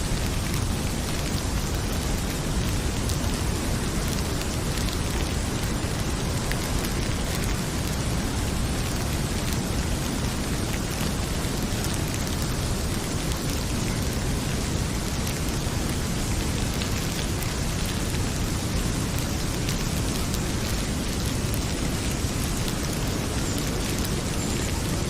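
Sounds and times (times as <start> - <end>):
heavy rain pouring: 0.0 - 25.0
wood fire crackling: 0.0 - 25.0.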